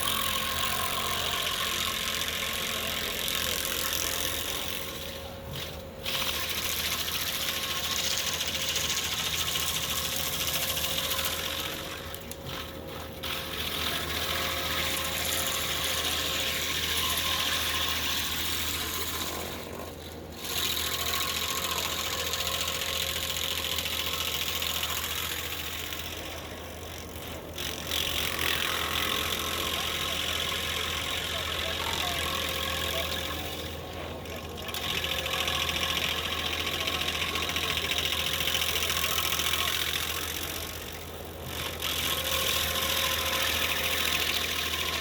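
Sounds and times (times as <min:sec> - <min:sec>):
stump grinder grinding: 0:00.0 - 0:45.0.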